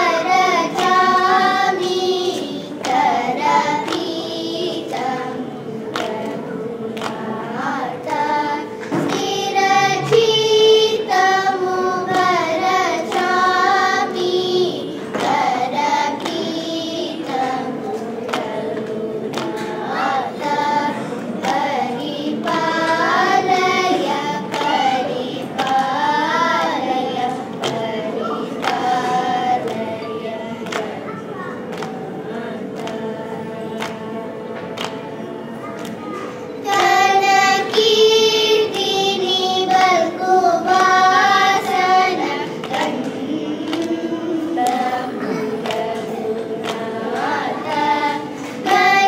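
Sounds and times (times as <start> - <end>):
children singing in unison: 0.0 - 49.0
light hand claps: 0.2 - 14.4, 15.1 - 20.7, 21.3 - 29.9, 30.6 - 31.0, 31.7 - 32.1, 32.7 - 49.0.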